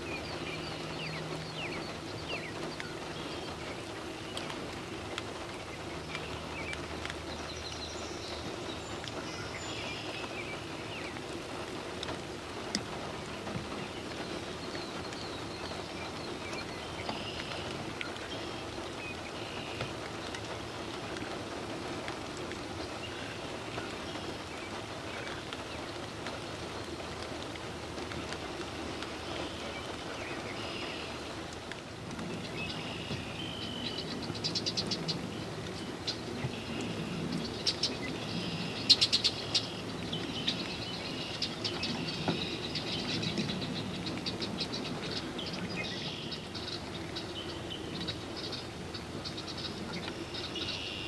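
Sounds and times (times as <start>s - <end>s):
steady rain patter: 0.0s - 51.0s.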